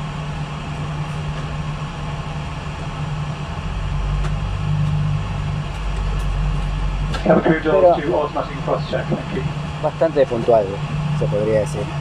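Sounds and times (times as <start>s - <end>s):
airplane cabin drone: 0.0s - 12.0s
deep rumble: 0.0s - 12.0s.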